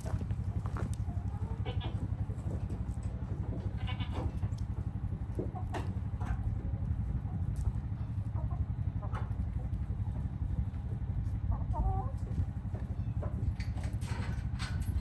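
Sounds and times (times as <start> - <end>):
chickens clucking: 0.0 - 15.0
low steady rumble: 0.0 - 15.0.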